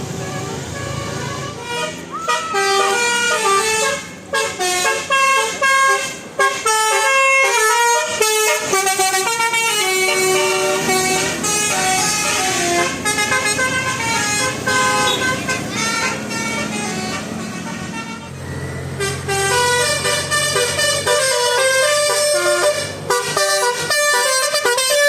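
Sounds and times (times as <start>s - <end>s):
musical vehicle horn playing tune: 0.1s - 25.0s.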